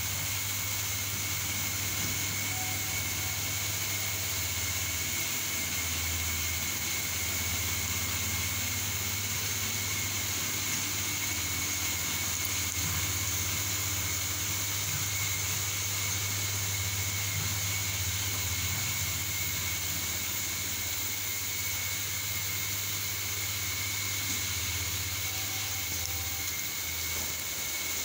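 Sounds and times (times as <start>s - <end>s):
high constant whine: 0.0s - 28.0s
machine hum and hiss: 0.0s - 28.0s.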